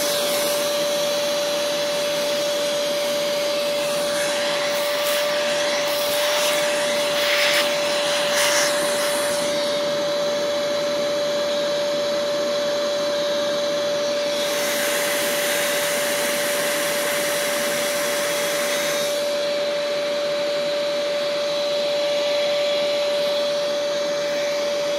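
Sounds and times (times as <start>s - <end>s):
shop vacuum motor whine: 0.0s - 24.9s.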